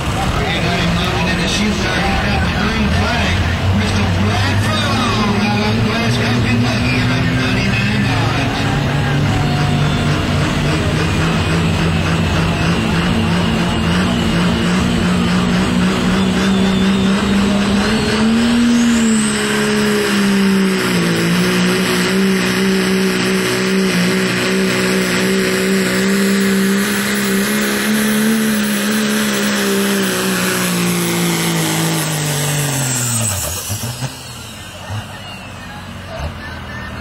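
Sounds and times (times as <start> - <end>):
diesel pickup engine at full throttle: 0.0 - 37.0.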